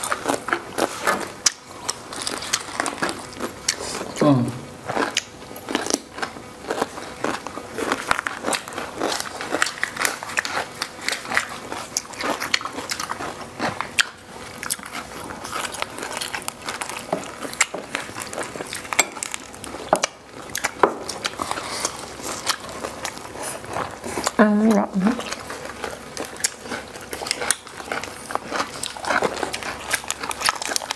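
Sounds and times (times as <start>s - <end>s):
people chewing crunchy food: 0.0s - 30.9s.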